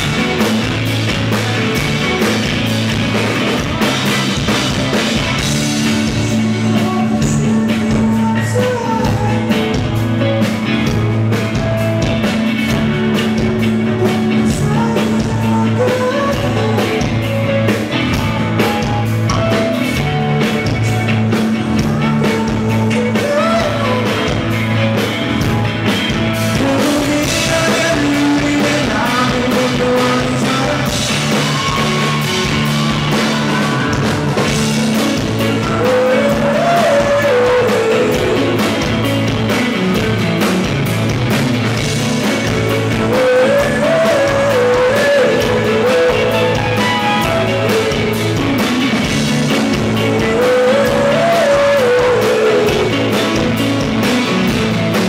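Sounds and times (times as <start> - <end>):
electric guitar: 0.0 - 55.0
live rock band: 0.0 - 55.0
steady drum beat: 0.0 - 55.0
man singing: 5.2 - 25.0, 26.4 - 34.0, 34.8 - 40.1, 42.2 - 54.2.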